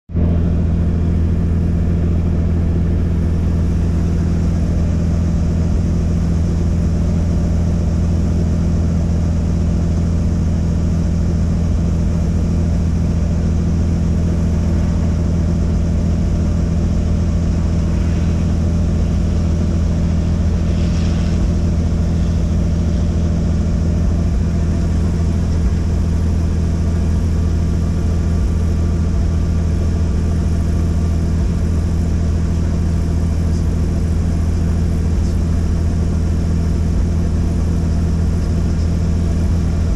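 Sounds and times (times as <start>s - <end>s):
helicopter engine and rotor: 0.5s - 39.9s.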